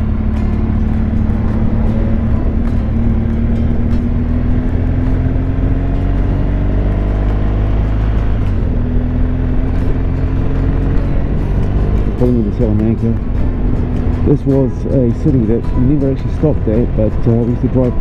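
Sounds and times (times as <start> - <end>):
motorcycle engine drone: 0.0 - 18.0.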